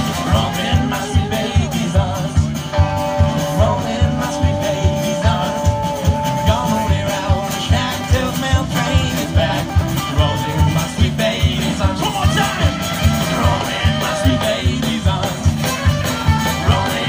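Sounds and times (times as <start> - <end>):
drum beat: 0.0 - 17.0
electric guitar: 0.0 - 17.0
strummed acoustic guitar: 0.0 - 17.0.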